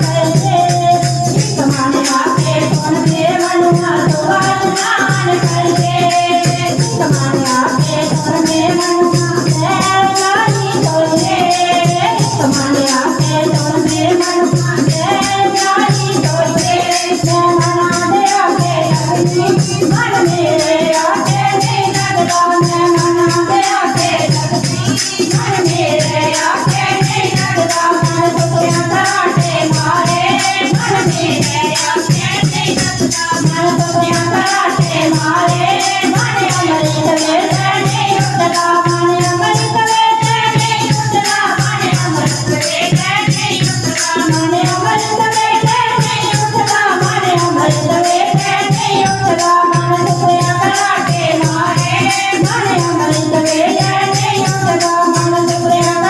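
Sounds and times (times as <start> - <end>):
hand percussion: 0.0 - 56.0
shaken rattle: 0.0 - 56.0.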